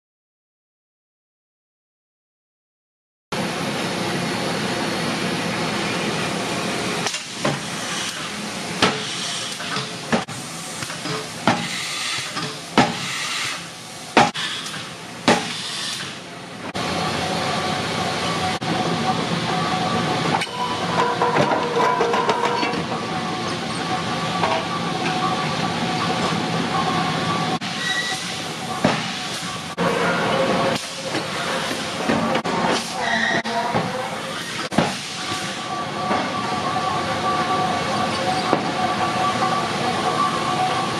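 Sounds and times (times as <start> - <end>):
machinery hum: 3.4 - 40.9.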